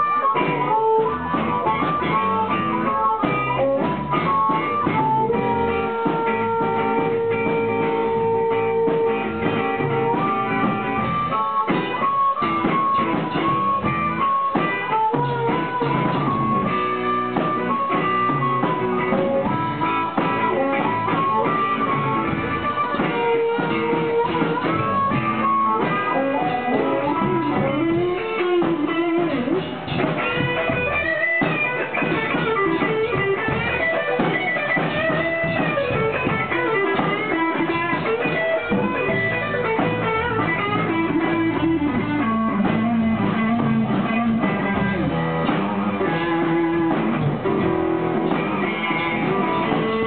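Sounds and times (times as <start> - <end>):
bass guitar: 0.0 - 50.0
drums: 0.0 - 50.0
electric guitar: 0.0 - 50.0
harmonica: 0.0 - 50.0.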